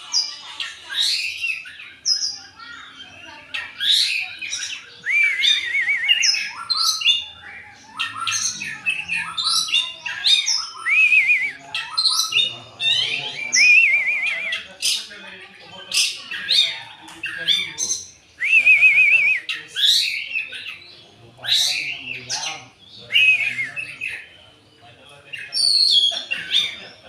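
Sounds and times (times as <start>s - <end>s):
bird singing chirps and trills: 0.0s - 27.0s.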